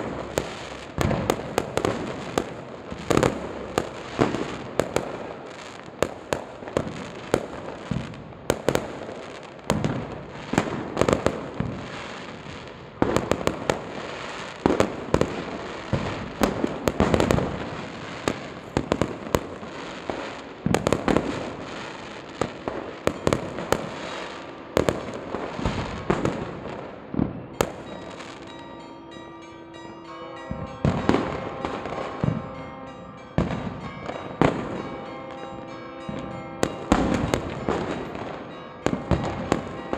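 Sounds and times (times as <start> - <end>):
fireworks bangs and crackles: 0.0 - 28.5, 30.5 - 32.6, 33.4 - 39.9
steady ringing tones: 0.0 - 39.9.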